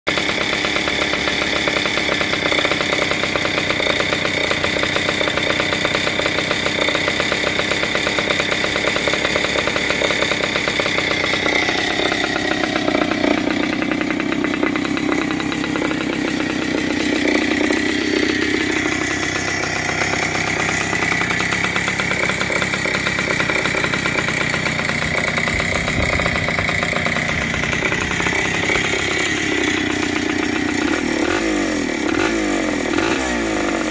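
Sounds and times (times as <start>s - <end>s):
two-stroke engine idling: 0.1s - 33.9s.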